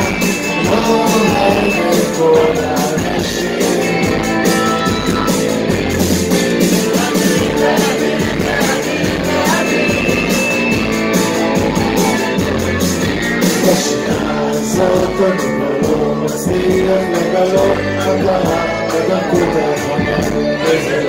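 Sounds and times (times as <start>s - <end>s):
man singing: 0.0s - 12.4s, 13.4s - 21.0s
drums: 0.0s - 21.0s
electric guitars: 0.0s - 21.0s.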